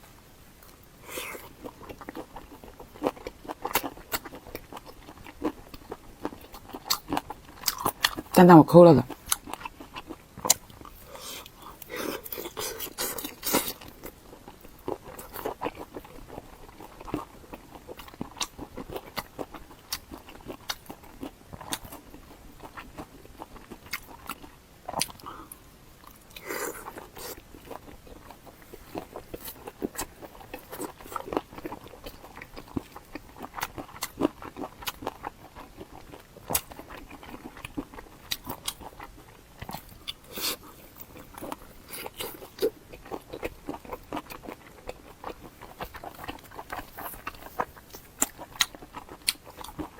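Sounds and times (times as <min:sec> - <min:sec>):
crunching and chewing crisp food: 0:00.0 - 0:49.9.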